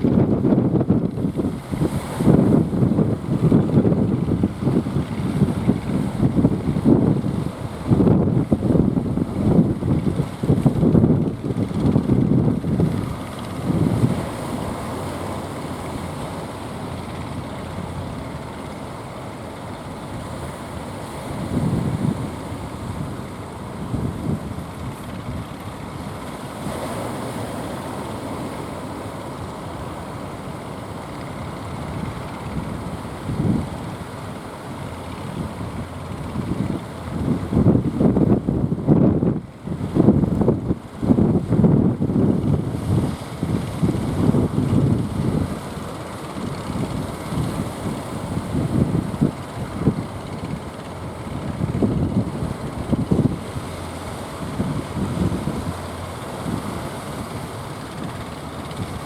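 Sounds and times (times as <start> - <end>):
strong wind: 0.0 - 59.0
surf rumbling: 0.0 - 59.0.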